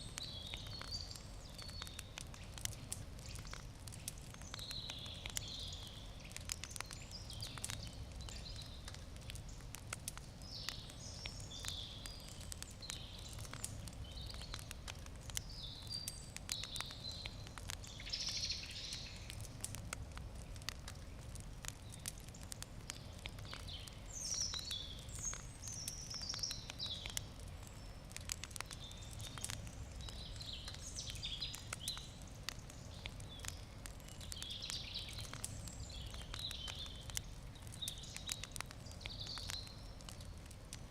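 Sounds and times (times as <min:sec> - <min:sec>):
low outdoor rumble: 0:00.0 - 0:40.9
small birds chirping: 0:00.0 - 0:40.9
wood fire crackling and popping: 0:00.0 - 0:40.9.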